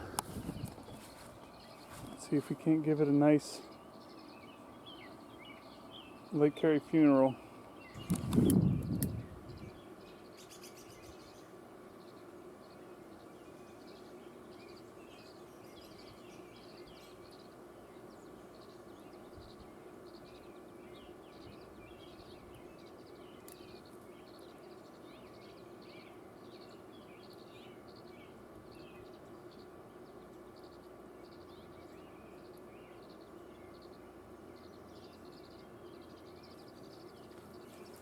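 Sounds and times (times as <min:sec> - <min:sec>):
small birds chirping: 0:00.0 - 0:38.0
steady background hum: 0:00.0 - 0:38.0.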